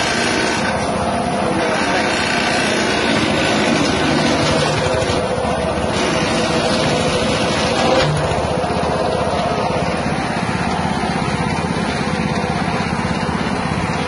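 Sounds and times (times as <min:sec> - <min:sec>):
small petrol engine running: 0:00.0 - 0:14.0.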